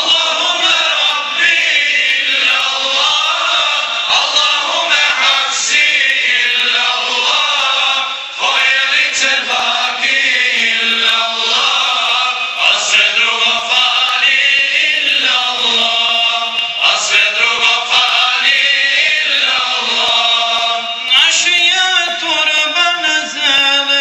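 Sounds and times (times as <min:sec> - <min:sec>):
men singing a hymn: 0:00.0 - 0:24.0.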